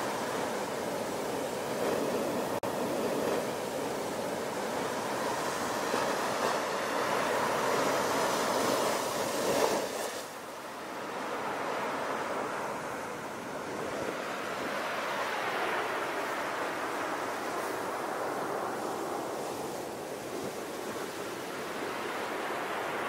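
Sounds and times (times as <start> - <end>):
waves breaking: 0.0 - 23.0.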